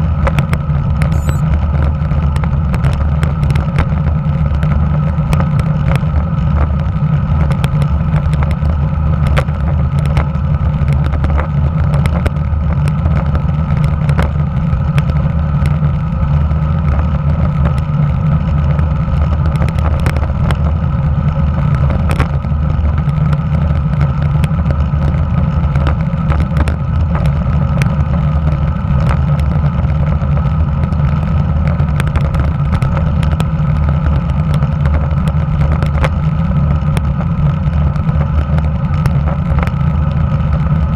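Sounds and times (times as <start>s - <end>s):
bicycle road rumble: 0.0s - 40.9s
ticks and knocks from road vibration: 0.0s - 40.9s
wind: 0.0s - 40.9s.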